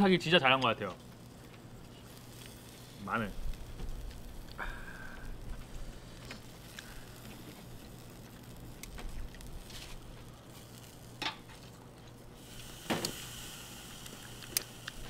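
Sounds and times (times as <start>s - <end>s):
meat sizzling on a grill pan: 0.0s - 15.0s.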